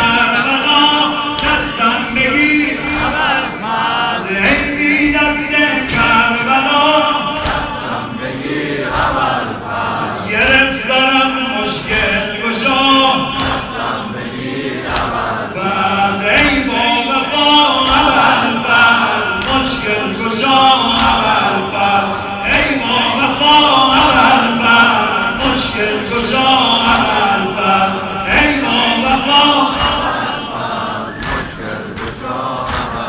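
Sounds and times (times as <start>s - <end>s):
crowd of men chanting: 0.0s - 33.0s
man singing through loudspeakers: 0.0s - 33.0s.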